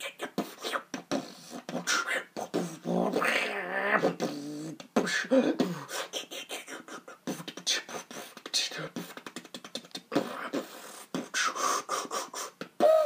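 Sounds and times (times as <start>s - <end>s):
beatboxing percussive hits: 0.0s - 3.0s, 4.0s - 13.0s.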